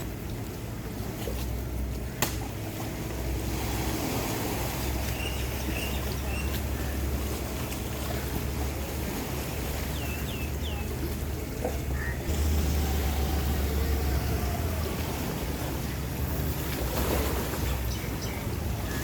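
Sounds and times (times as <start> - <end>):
boat engine drone: 0.0 - 19.0
water noise: 0.0 - 19.0
wind: 0.0 - 19.0.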